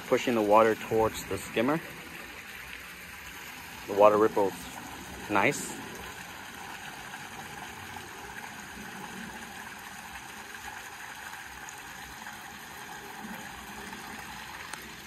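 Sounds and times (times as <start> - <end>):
jets rippling water: 0.0 - 15.0
water splashing into pond: 0.0 - 15.0.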